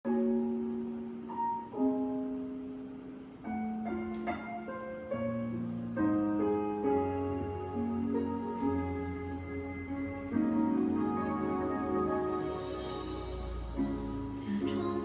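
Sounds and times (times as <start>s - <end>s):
slow solo piano through tv speakers: 0.0s - 15.0s.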